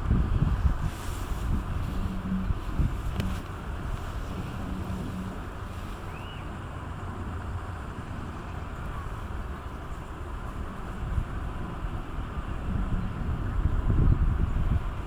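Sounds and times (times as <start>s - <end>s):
wind buffeting microphone: 0.0s - 6.8s, 7.6s - 15.0s.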